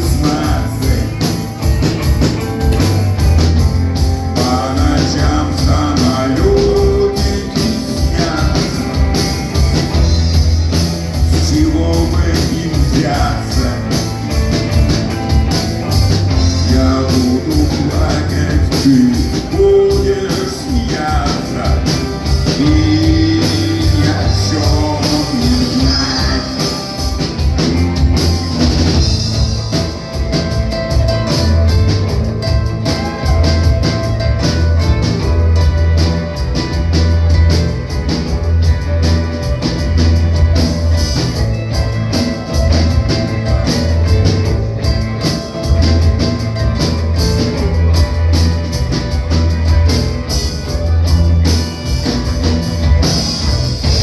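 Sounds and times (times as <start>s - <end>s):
bending guitar melody: 0.0s - 54.0s
live rock band playing: 0.0s - 54.0s.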